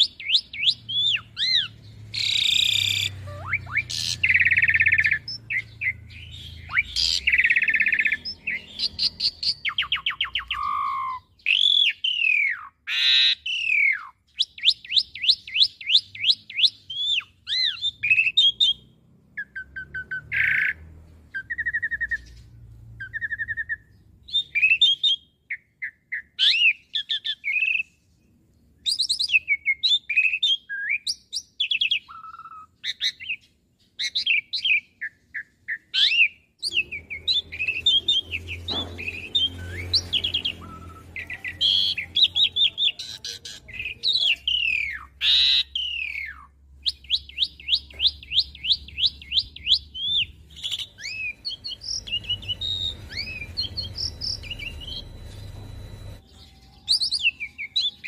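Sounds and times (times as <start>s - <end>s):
starling singing: 0.0s - 22.4s, 23.0s - 27.9s, 28.8s - 58.0s.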